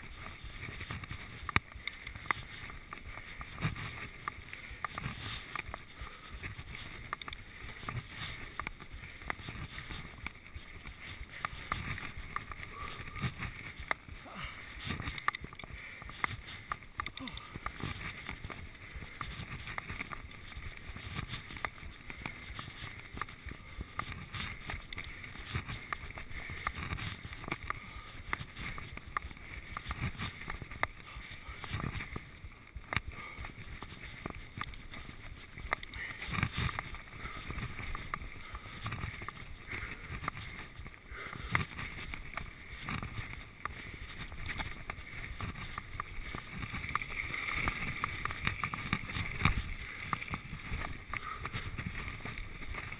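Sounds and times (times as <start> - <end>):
bike rattling over bumps: 0.0 - 52.9.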